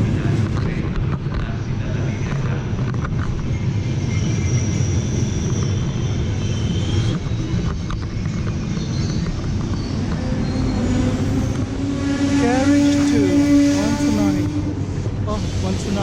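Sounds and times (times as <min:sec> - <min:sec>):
train engine rumble: 0:00.0 - 0:16.0.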